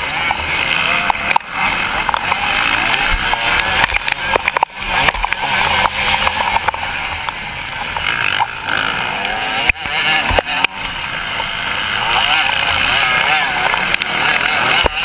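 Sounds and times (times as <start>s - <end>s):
motocross bike engine revving: 0.0s - 15.0s
other motocross bikes: 0.0s - 15.0s.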